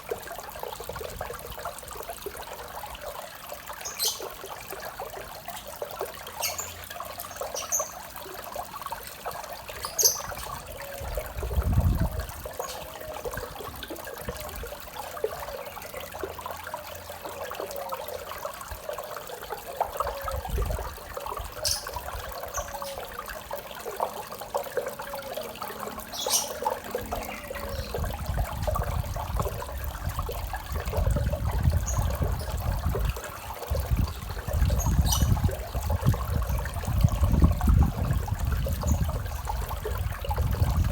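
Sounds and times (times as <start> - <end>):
small waterfall splashing into pond: 0.0 - 40.9.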